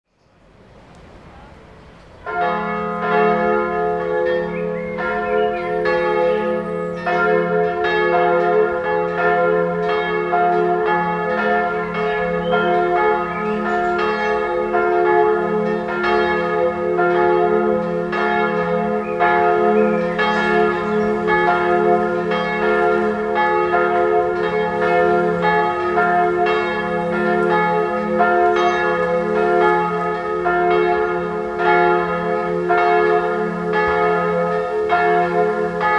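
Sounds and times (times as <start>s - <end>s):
church bells ringing: 1.2s - 35.9s.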